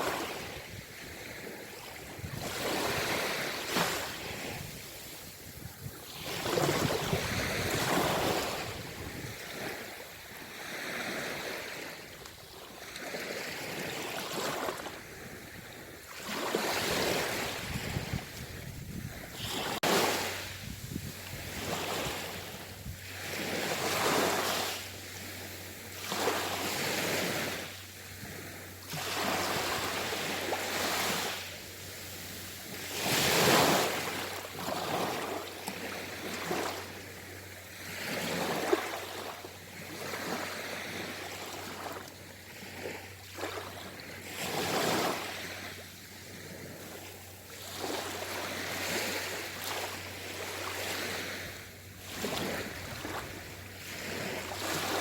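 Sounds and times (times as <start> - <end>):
sea waves washing onto shore: 0.0 - 55.0.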